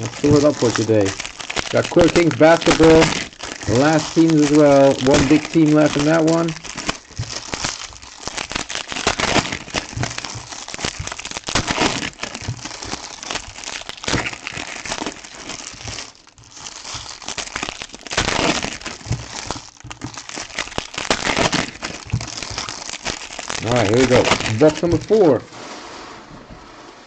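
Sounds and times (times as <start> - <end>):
plastic wrapping crinkling: 0.0 - 27.0.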